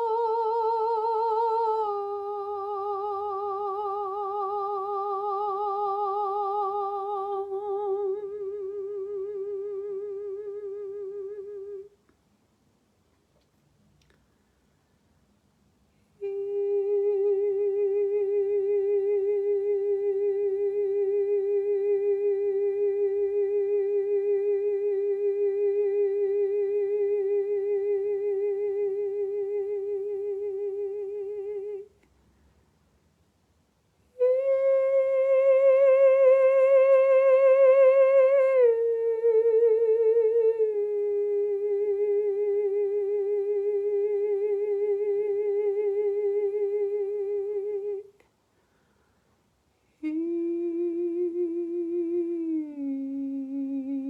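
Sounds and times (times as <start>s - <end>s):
woman humming with vibrato: 0.0s - 12.0s, 16.2s - 31.9s, 34.2s - 48.2s, 50.0s - 54.0s.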